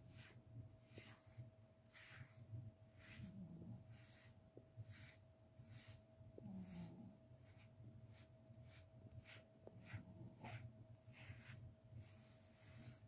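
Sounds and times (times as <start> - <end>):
brush strokes through fur: 0.0 - 13.0.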